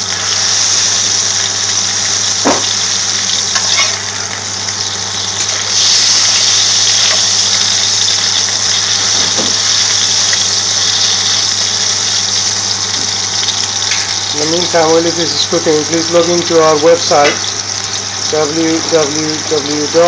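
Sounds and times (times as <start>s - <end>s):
patties sizzling in oil: 0.0s - 20.0s.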